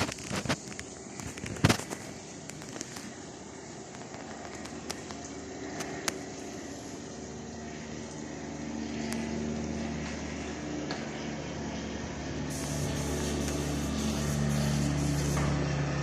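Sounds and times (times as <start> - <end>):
motor running steadily: 0.0 - 16.0.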